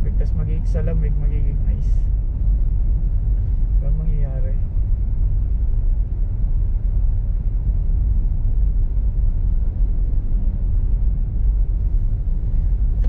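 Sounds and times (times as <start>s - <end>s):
car driving on snowy road: 0.0s - 13.0s.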